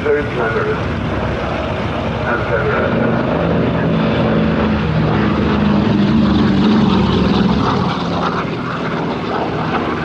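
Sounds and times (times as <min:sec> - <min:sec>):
propeller aircraft droning overhead: 0:00.0 - 0:10.0.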